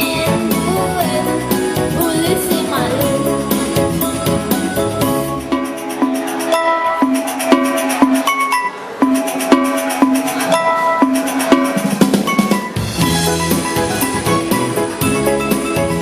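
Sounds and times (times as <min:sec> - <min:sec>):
music with percussion: 0:00.0 - 0:16.0.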